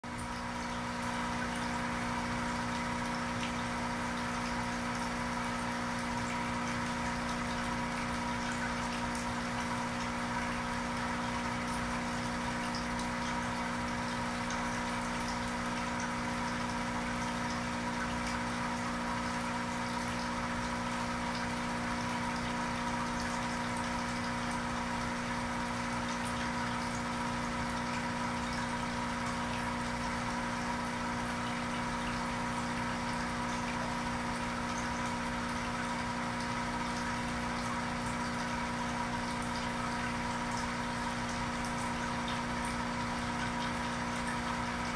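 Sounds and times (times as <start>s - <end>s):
aquarium pump humming: 0.0s - 44.9s
water noise: 0.0s - 44.9s.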